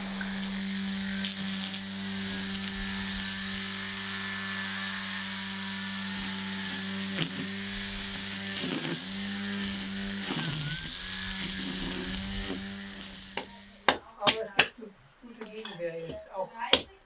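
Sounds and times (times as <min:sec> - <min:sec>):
brush cutter running: 0:00.0 - 0:13.9.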